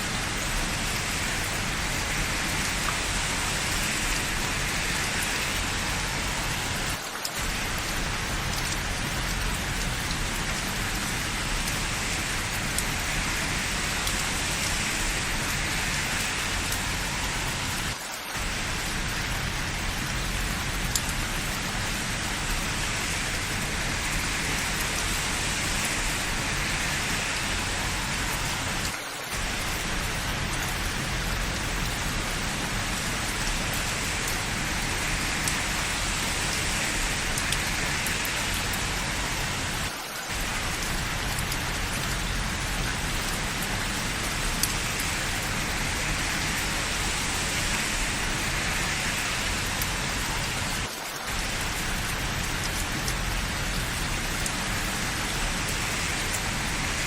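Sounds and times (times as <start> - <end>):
rain splashing on hard surfaces: 0.0 - 57.0.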